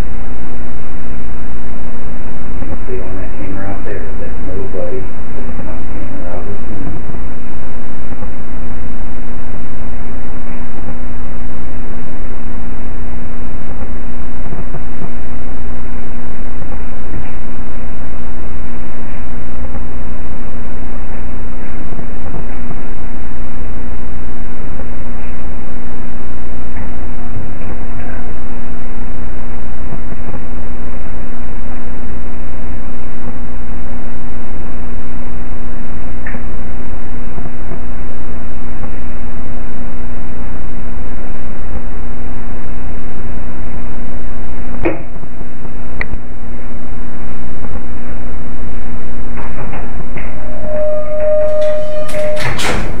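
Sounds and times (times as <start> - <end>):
electronic static hiss: 0.0 - 50.4
faint steady tone: 0.0 - 53.0
low hum: 0.0 - 53.0.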